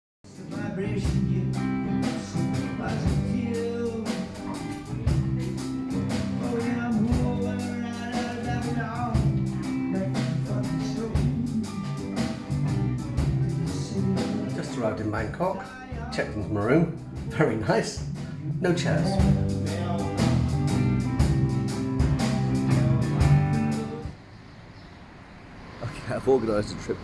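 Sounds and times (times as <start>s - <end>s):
rhythmic guitar song: 0.3s - 24.2s.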